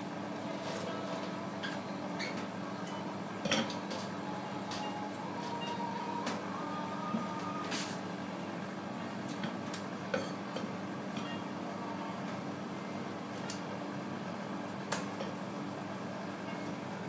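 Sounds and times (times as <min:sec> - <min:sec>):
low kitchen hum: 0:00.0 - 0:17.0.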